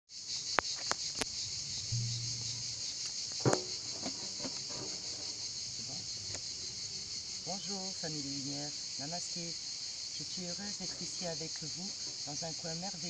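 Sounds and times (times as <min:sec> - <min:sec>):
insects chirping: 0:00.1 - 0:13.0.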